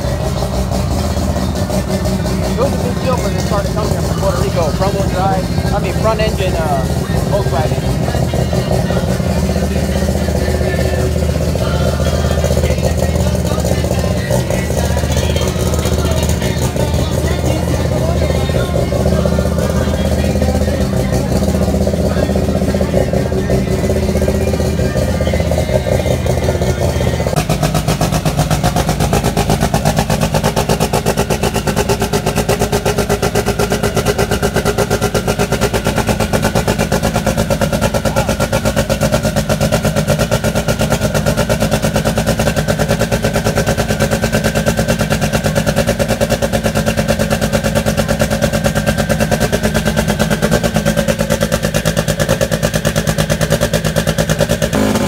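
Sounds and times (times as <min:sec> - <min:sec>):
car engine idling loudly: 0:00.0 - 0:55.0.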